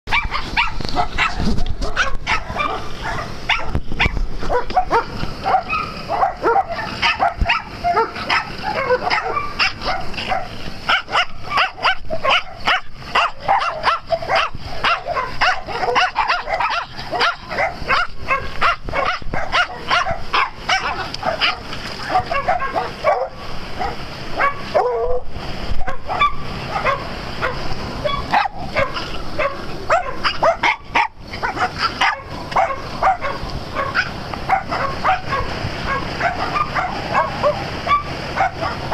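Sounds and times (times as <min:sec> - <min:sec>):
small dogs barking: 0:00.1 - 0:25.2, 0:25.8 - 0:38.9.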